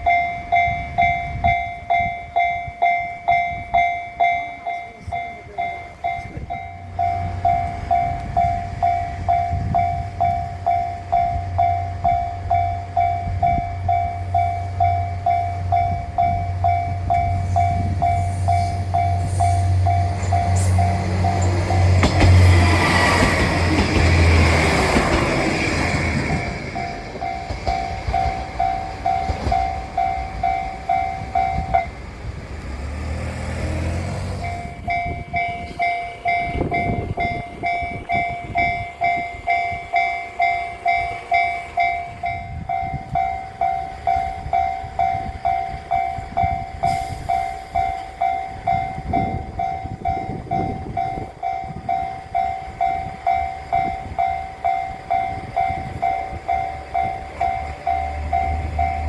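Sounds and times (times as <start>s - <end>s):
level-crossing bell ringing: 0.0s - 22.0s, 25.4s - 32.0s, 34.4s - 59.0s
diesel engine humming: 0.0s - 59.0s
diesel train passing: 0.0s - 59.0s.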